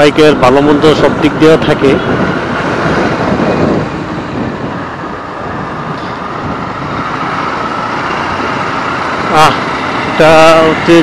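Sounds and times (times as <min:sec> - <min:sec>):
motorcycle engine: 0:00.0 - 0:11.0
surrounding traffic: 0:00.0 - 0:11.0
wind: 0:00.0 - 0:11.0.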